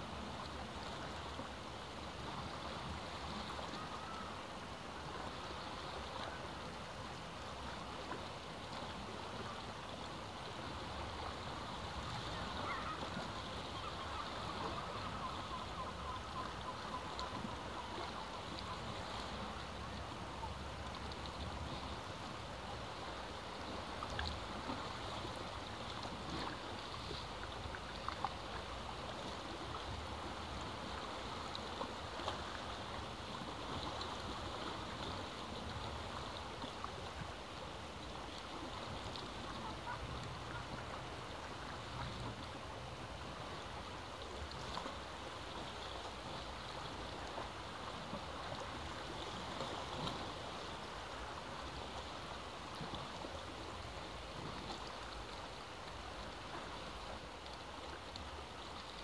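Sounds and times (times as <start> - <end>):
sea water washing over rocks: 0.0 - 59.0.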